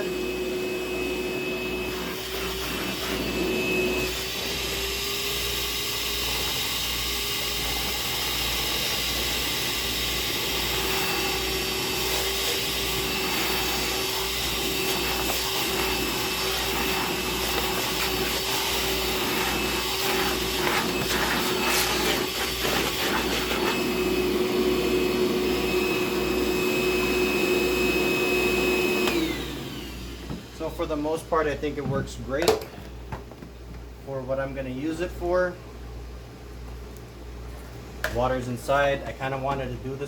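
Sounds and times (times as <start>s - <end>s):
wet dry vacuum whine and airflow: 0.0s - 35.6s.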